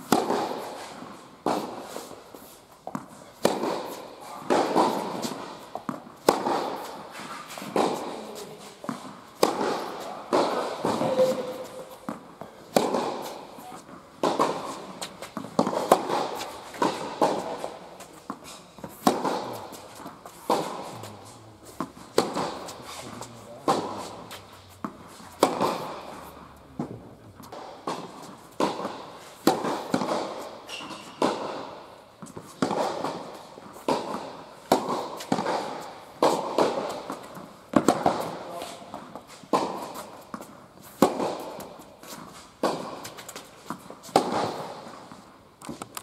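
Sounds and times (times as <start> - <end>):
tennis balls struck and bouncing: 0.0 - 46.0.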